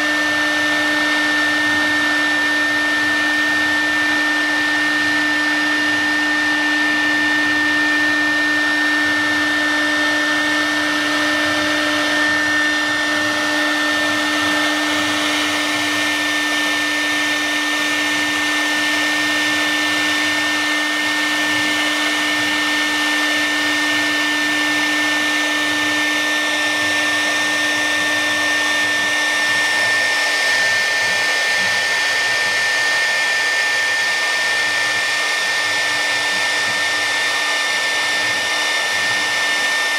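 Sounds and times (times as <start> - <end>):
router bit cutting wood: 0.0 - 39.9
wood router spindle whine: 0.0 - 39.9.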